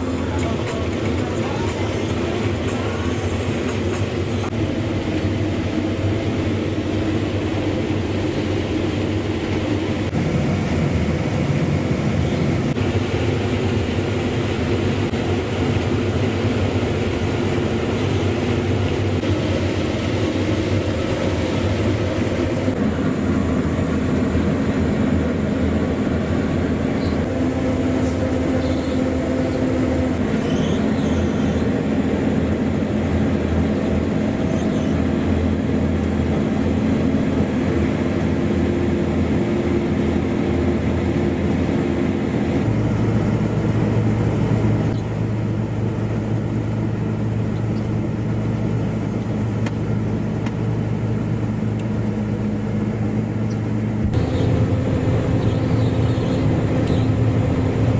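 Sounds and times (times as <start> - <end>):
combine harvester engine hum: 0.0 - 57.9.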